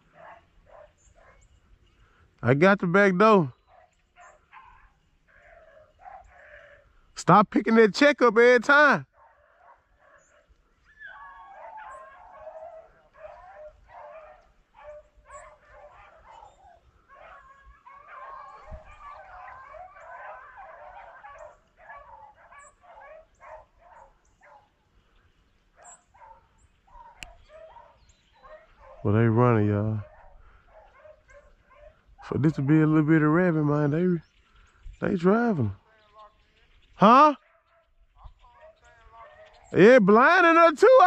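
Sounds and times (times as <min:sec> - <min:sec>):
hounds baying and yelping: 0:00.0 - 0:02.3, 0:03.2 - 0:07.2, 0:09.0 - 0:41.0.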